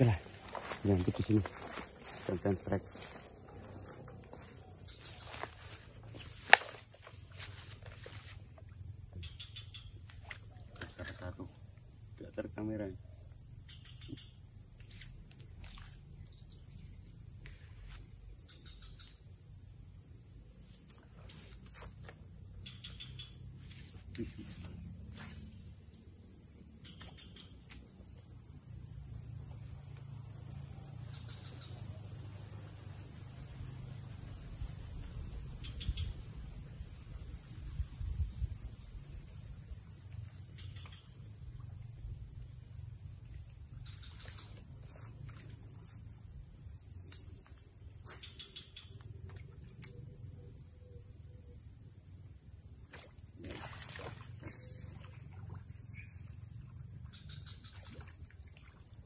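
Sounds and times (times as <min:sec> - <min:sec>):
high-pitched insect drone: 0:00.0 - 0:51.6
short insect calls: 0:00.0 - 0:59.0.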